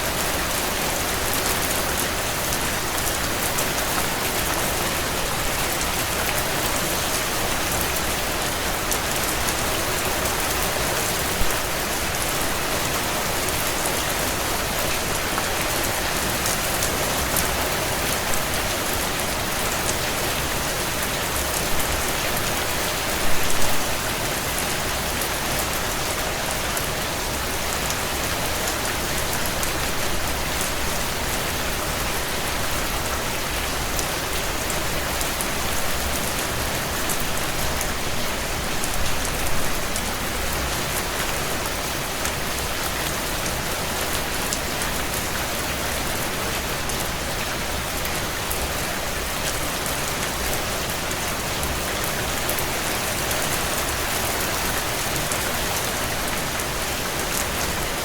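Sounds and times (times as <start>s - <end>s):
heavy rain on window panes: 0.0s - 58.0s.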